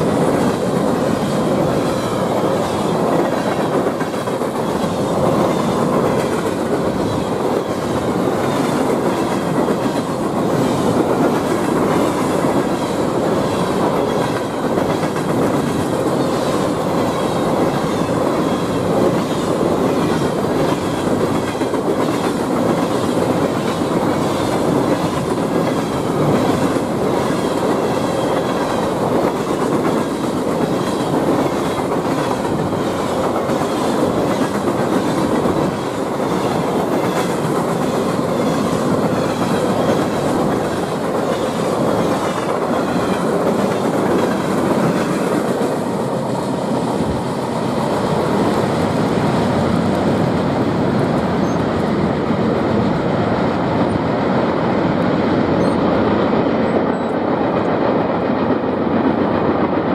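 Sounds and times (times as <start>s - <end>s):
train rumble: 0.0s - 59.9s
train wheels clacking on rails: 0.0s - 59.9s.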